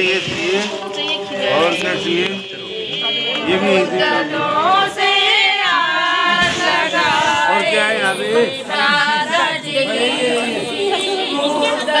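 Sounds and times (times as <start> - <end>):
people singing together: 0.0 - 12.0.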